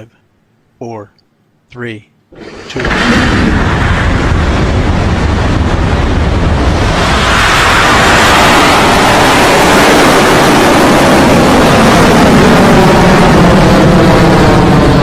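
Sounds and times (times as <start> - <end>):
rocket engines rumbling at liftoff: 2.3 - 15.0.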